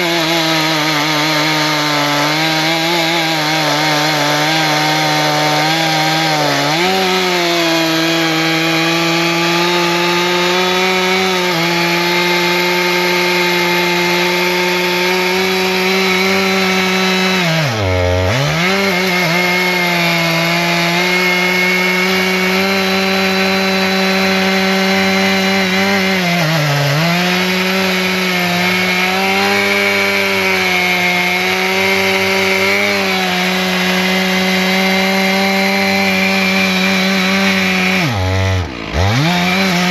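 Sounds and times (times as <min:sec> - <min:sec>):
chainsaw cutting through logs: 0:00.0 - 0:39.9.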